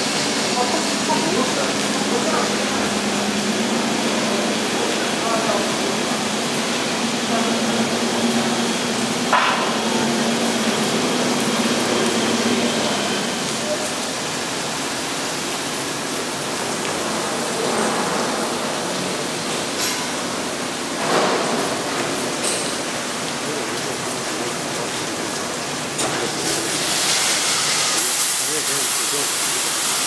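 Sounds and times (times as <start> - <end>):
car wash water and spinning brushes: 0.0 - 30.0.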